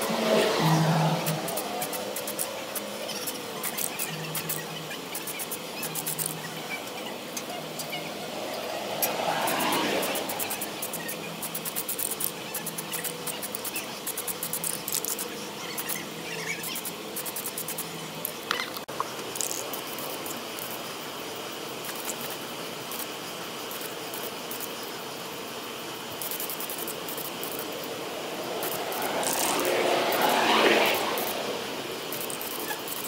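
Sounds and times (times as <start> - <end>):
spray paint can hissing: 0.0 - 18.5, 21.8 - 24.8, 25.7 - 33.0.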